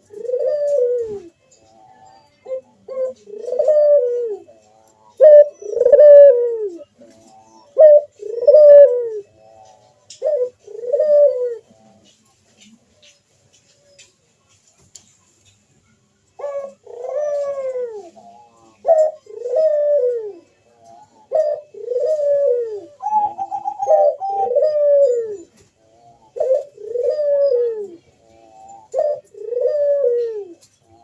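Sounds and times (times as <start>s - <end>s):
doves cooing: 0.0s - 14.1s, 16.3s - 31.0s.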